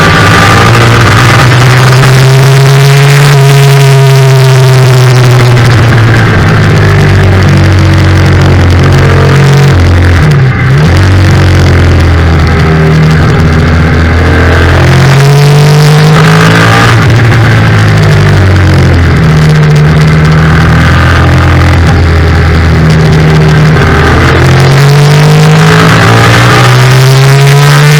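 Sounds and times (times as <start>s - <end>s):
motorcycle engine at high revs: 0.0s - 27.9s.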